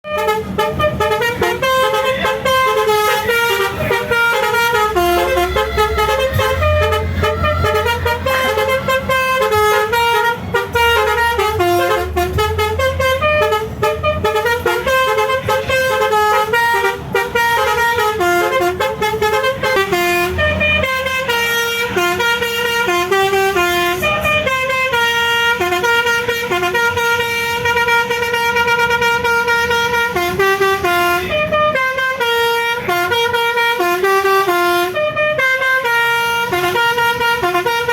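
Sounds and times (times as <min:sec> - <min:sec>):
multi-tone musical car horn melody: 0:00.0 - 0:37.9.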